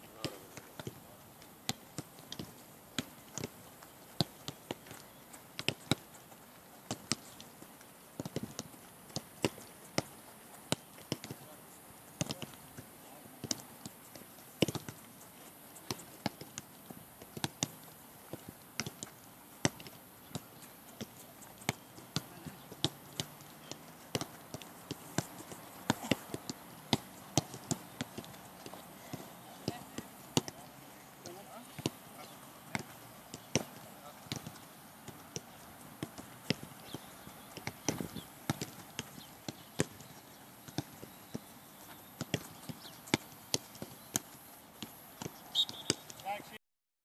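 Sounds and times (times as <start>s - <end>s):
footballs being kicked: 0.1s - 15.0s, 15.8s - 46.5s.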